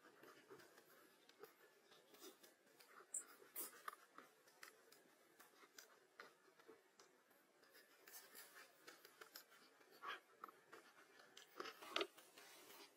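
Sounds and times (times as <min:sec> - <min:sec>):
faint small clicks and crackles: 0:00.0 - 0:12.9.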